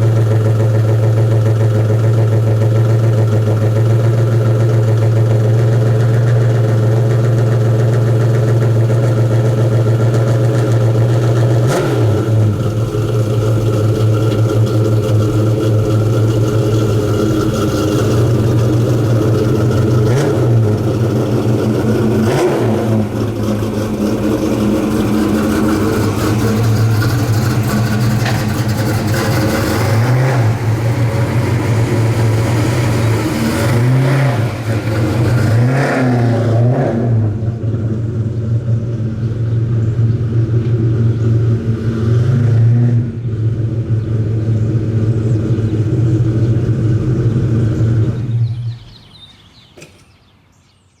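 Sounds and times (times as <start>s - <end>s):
car engine idling and revving: 0.0s - 49.5s.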